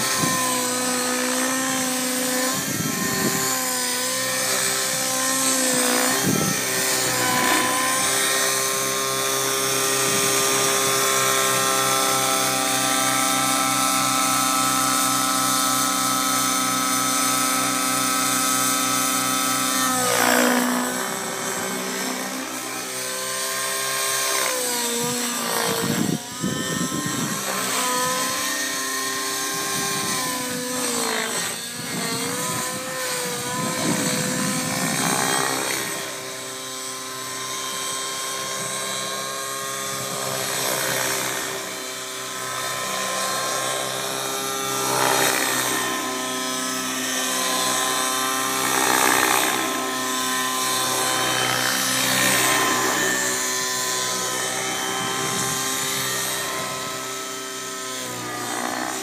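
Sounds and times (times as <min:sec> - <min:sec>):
model helicopter motor whine: 0:00.0 - 0:59.0.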